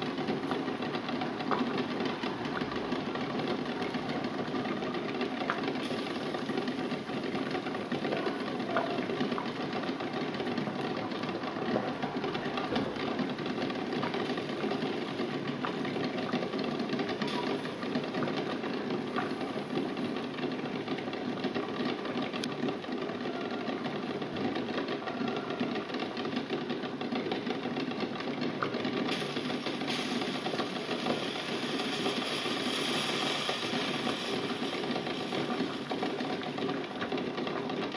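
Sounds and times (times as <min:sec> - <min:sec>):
eggs rattling in a pot: 0:00.0 - 0:37.9
water boiling in a pot: 0:00.0 - 0:37.9.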